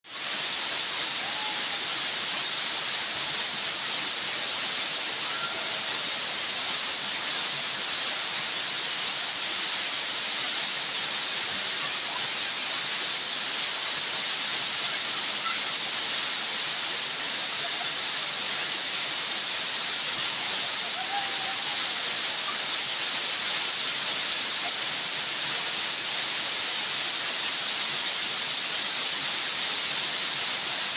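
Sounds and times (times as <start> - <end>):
flowing water: 0.1 - 30.9.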